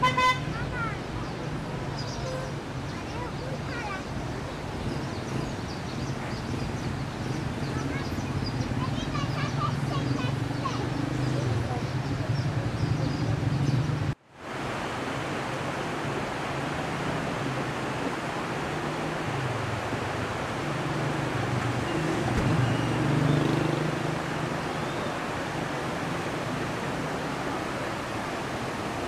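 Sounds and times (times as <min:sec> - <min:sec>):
flood water rushing: 0:00.0 - 0:29.0.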